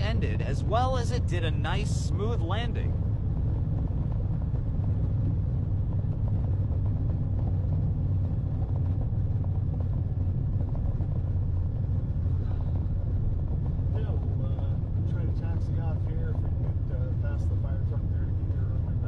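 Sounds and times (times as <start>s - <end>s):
aircraft engines droning: 0.0s - 19.0s.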